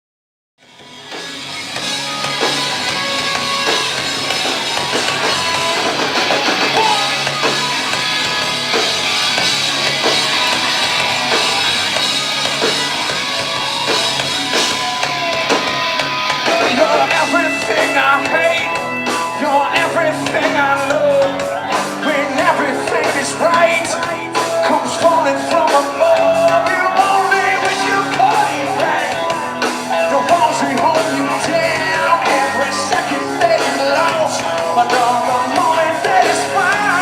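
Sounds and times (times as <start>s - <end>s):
drum kit: 0.6s - 37.0s
electric guitars: 0.6s - 37.0s.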